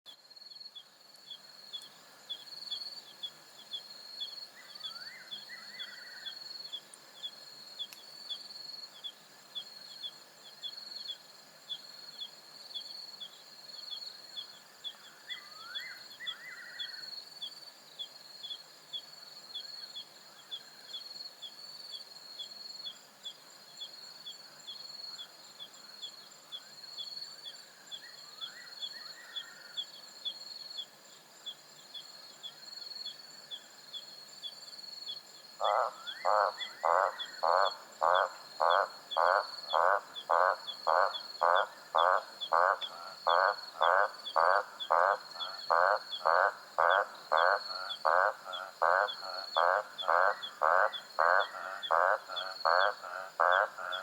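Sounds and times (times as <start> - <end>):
crickets chirping: 0.1 - 54.0.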